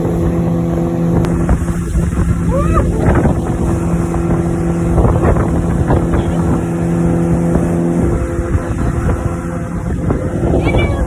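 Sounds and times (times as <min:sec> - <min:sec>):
motorboat engine drone: 0:00.0 - 0:11.0
wind and water rushing: 0:00.0 - 0:11.0.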